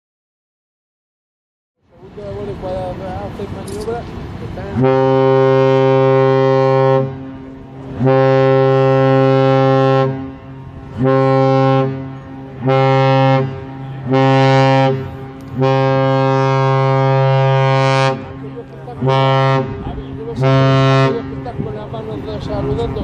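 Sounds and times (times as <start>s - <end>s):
ship's horn blasts: 2.8s - 23.0s.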